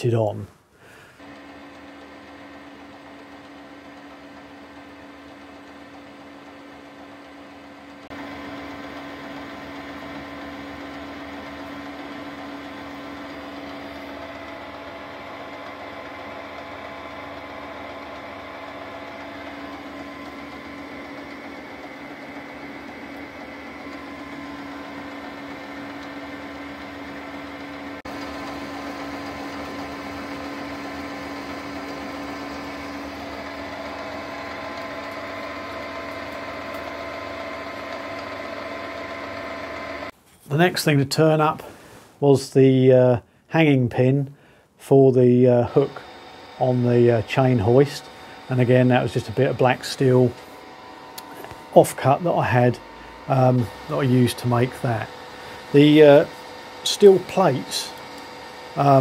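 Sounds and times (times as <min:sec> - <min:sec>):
lathe running hum: 0:00.8 - 0:40.2, 0:45.1 - 0:59.0.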